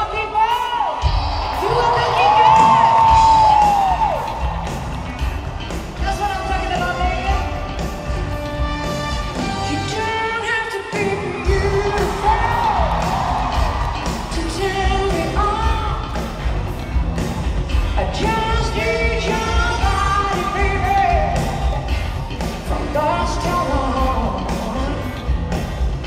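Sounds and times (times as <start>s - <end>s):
live pop band: 0.0s - 26.0s.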